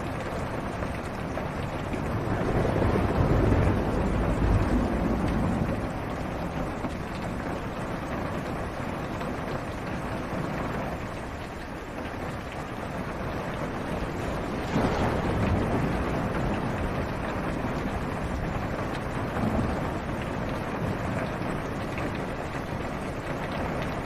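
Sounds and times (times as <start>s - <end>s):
thunder rumbling: 0.0s - 11.0s, 12.7s - 24.0s
rain drumming on car roof: 0.0s - 24.0s.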